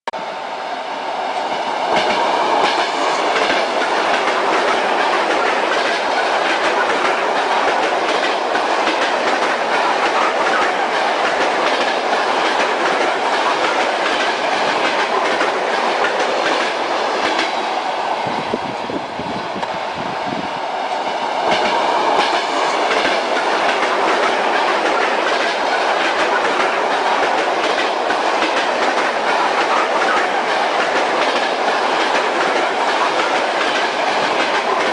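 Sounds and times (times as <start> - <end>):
train carriage rumble: 0.2 - 34.9
train wheels clacking over rail joints: 1.8 - 17.8, 21.0 - 34.9.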